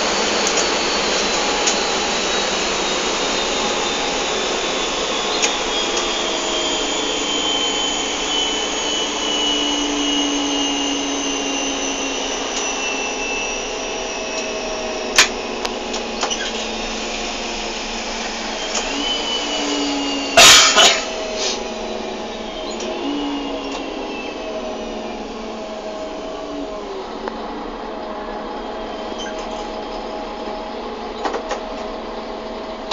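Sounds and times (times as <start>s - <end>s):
electric train drive whining: 0.0s - 32.9s.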